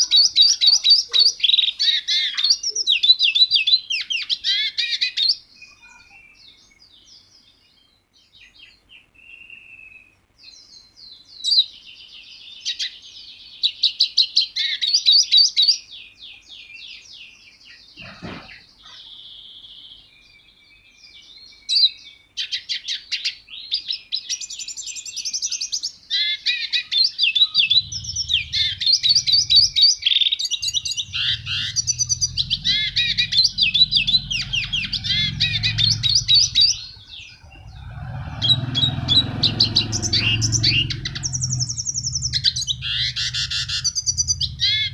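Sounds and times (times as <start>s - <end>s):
songbird chirping and trilling: 0.0s - 44.9s.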